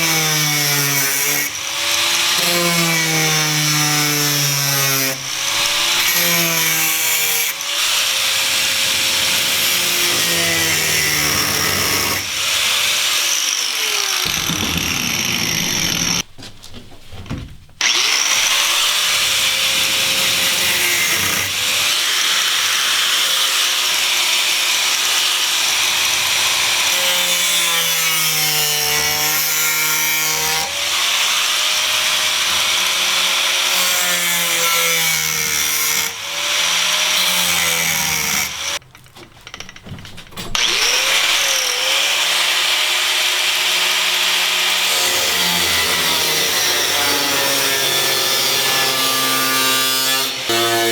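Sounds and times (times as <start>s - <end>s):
power tool cutting sheet steel: 0.0s - 16.2s, 17.8s - 38.8s, 40.4s - 50.9s.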